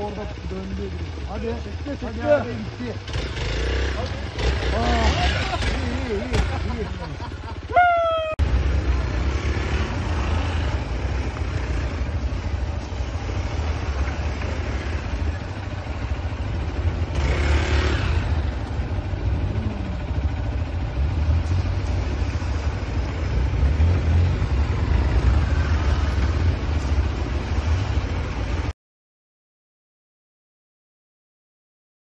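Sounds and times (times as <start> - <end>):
motorcycle engines revving: 0.0 - 28.7.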